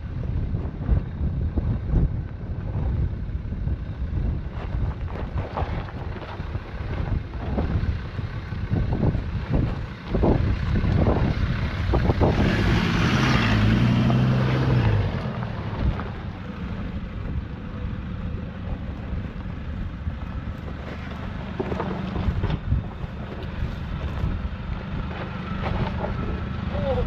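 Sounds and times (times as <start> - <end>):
wind buffeting microphone: 0.0 - 20.8, 21.9 - 27.0
engine working under load: 0.0 - 27.0.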